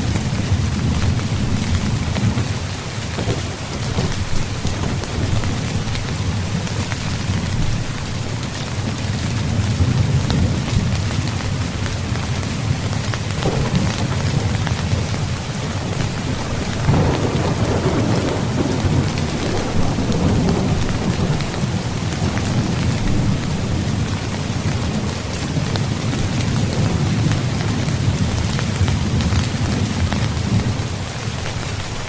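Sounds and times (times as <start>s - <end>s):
thunder rumble: 0.0s - 31.1s
rain on tent fabric: 0.0s - 32.0s.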